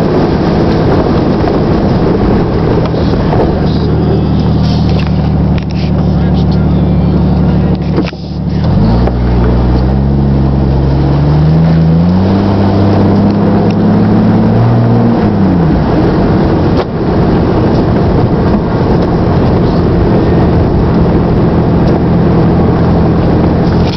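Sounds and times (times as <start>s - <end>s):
car exhaust accelerating: 0.0s - 23.9s.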